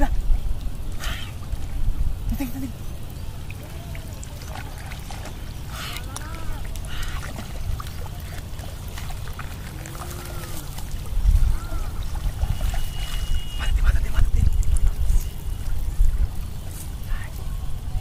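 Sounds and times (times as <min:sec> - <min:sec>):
wind buffeting microphone: 0:00.0 - 0:18.0
distant voices calling out: 0:02.2 - 0:18.0.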